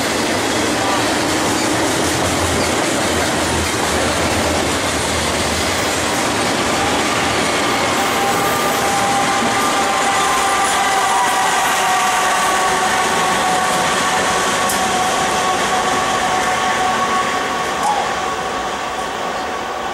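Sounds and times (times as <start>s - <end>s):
train wheels rolling on rails: 0.0s - 19.9s.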